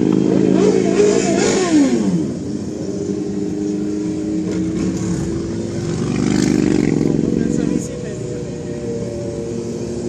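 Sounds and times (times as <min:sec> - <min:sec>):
motorcycles riding past: 0:00.0 - 0:10.0.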